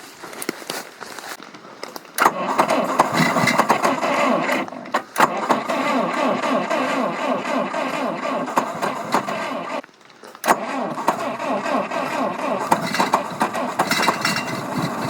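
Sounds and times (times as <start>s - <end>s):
starter motor cranking engine: 2.1s - 15.0s.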